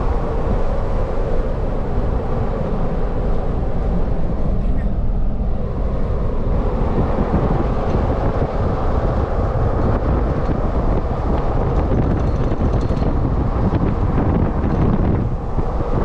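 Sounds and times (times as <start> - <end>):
car road and engine noise: 0.0 - 16.0
wind on microphone: 0.0 - 16.0.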